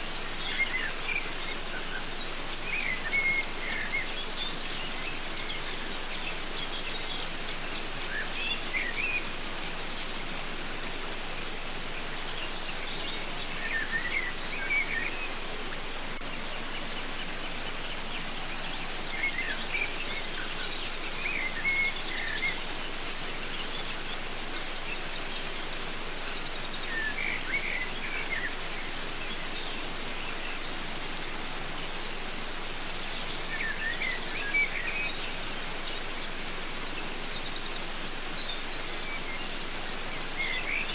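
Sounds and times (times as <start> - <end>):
songbird chirping: 0.0 - 40.9
waterfall rushing: 0.0 - 40.9.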